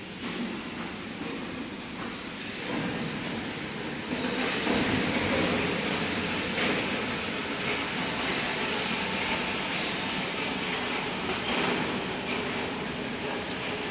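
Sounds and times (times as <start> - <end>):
truck machinery running with hiss: 0.0 - 13.9.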